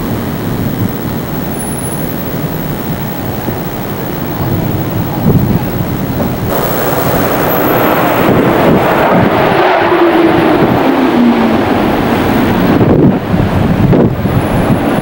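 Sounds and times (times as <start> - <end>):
jet aircraft roar overhead: 0.0 - 15.0.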